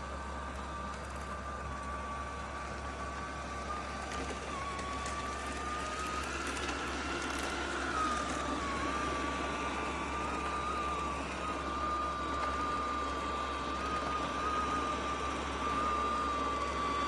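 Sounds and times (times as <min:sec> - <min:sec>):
robot vacuum whirring: 0:00.0 - 0:17.0.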